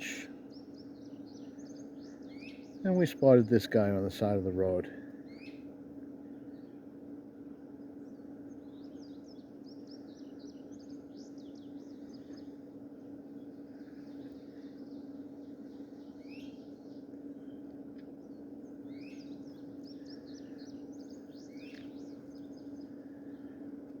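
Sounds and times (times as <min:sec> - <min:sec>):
songbirds chirping: 0:00.0 - 0:24.0
steady low hum: 0:00.0 - 0:24.0.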